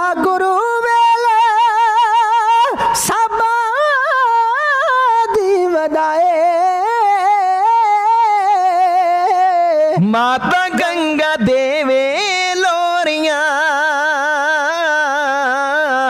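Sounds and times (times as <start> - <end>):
devotional singing melody: 0.0 - 16.0.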